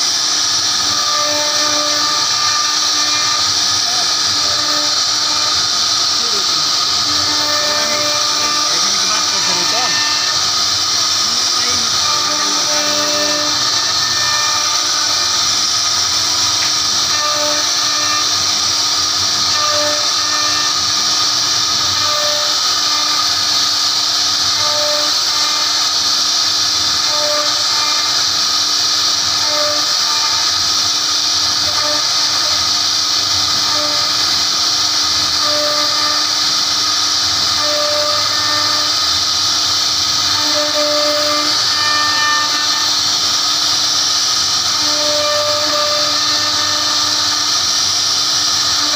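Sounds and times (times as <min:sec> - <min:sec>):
router spindle whine: 0:00.0 - 0:48.9.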